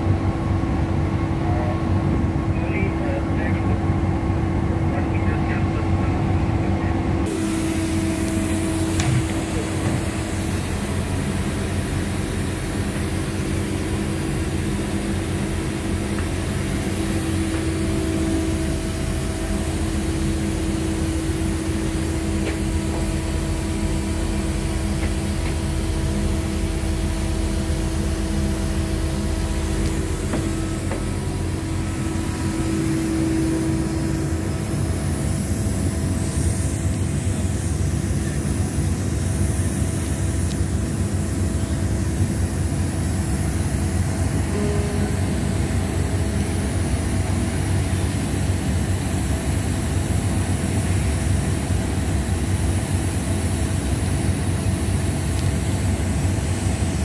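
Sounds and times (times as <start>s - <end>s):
mechanical drone: 0.0s - 57.0s.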